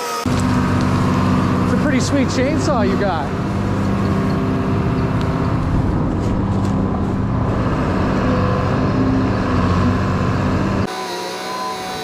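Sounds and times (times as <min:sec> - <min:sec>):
heavy machine engine running: 0:00.2 - 0:10.9.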